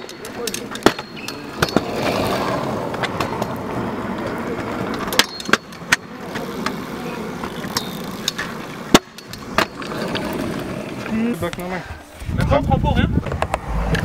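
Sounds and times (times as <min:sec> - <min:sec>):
scooter clacking on concrete: 0:00.0 - 0:11.7
scooter wheels rumbling on asphalt: 0:00.0 - 0:14.0.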